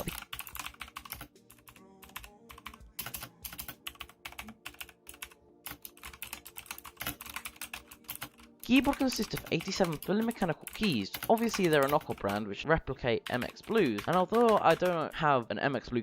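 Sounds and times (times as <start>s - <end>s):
mechanical keyboard clicks: 0.0s - 12.4s, 13.2s - 15.2s.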